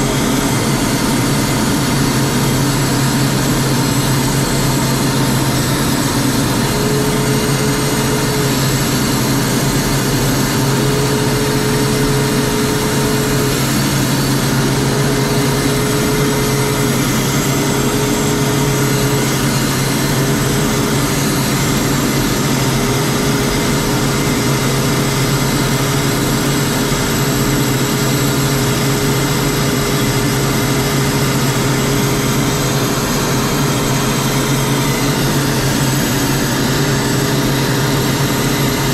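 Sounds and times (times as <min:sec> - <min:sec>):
aircraft engine drone: 0:00.0 - 0:38.9.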